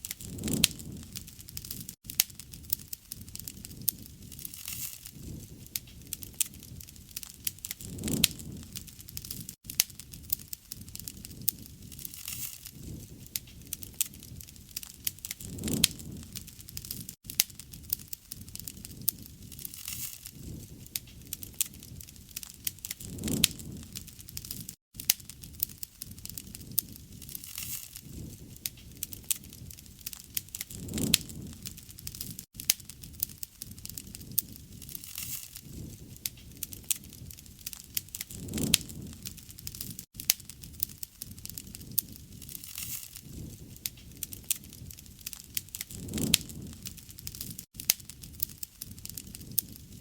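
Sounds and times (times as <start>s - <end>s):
whoosh of flame: 0.0s - 50.0s
wood fire crackling: 0.0s - 50.0s.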